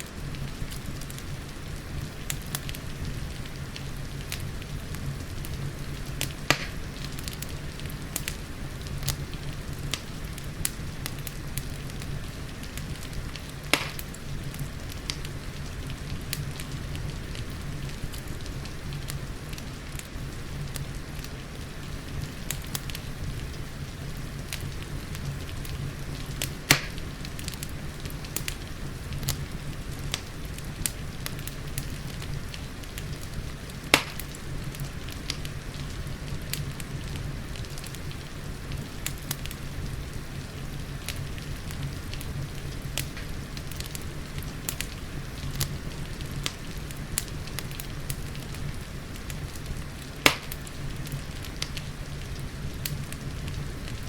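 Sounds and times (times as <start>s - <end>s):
loud sharp pops of fire: 0.0s - 23.7s, 24.4s - 54.0s
steady rain patter: 0.0s - 54.0s
wood fire crackling: 0.0s - 54.0s.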